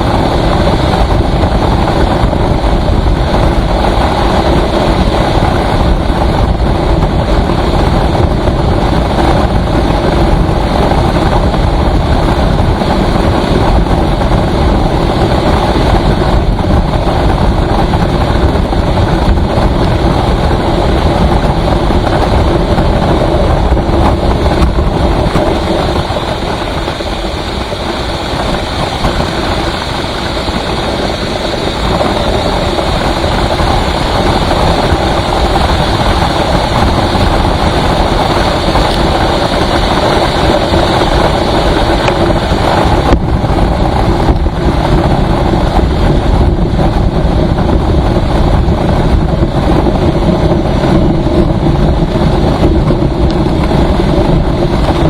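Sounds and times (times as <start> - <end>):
vehicle at highway speed: 0.0 - 55.0.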